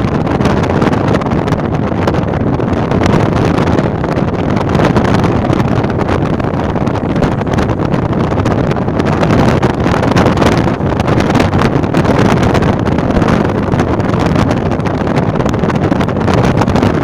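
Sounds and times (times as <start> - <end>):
tyre and road noise: 0.0 - 17.0
wind buffeting microphone: 0.0 - 17.0.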